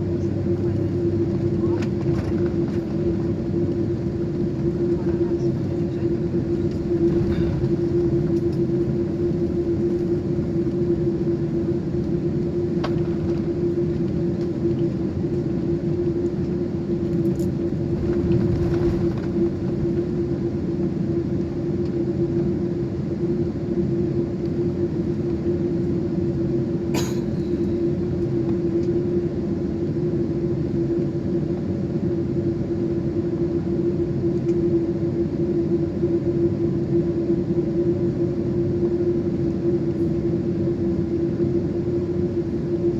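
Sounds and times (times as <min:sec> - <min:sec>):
jet engine drone in cabin: 0:00.0 - 0:42.9.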